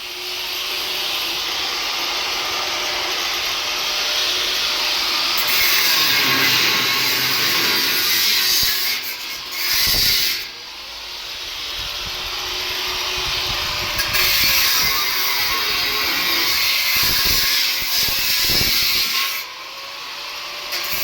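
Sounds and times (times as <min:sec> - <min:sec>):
harsh metalwork hiss: 0:00.0 - 0:19.5.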